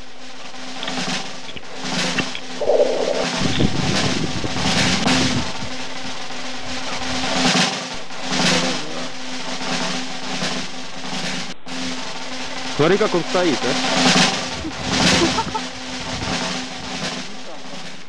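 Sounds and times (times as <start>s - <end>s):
background music with drums: 0.0s - 18.0s.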